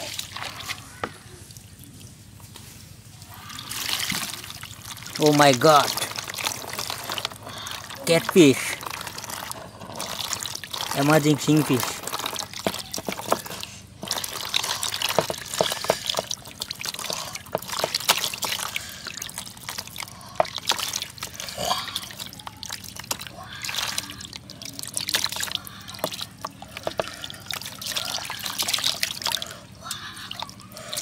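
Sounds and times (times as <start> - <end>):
small splashes in basin: 0.0 - 1.9, 3.4 - 29.6
water trickling and dripping: 3.2 - 31.0.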